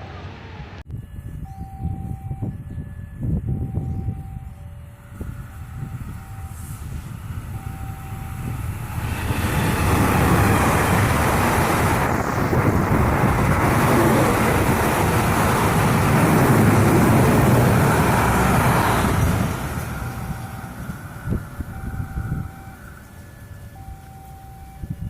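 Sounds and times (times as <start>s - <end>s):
train rumbling past: 0.0s - 1.2s, 3.3s - 25.0s.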